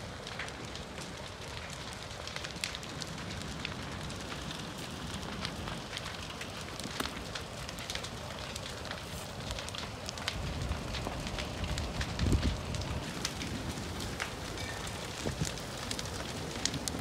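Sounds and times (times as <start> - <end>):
flames crackling: 0.0 - 17.0
sharp snaps and pops: 0.2 - 17.0
steady low rumble: 3.2 - 17.0.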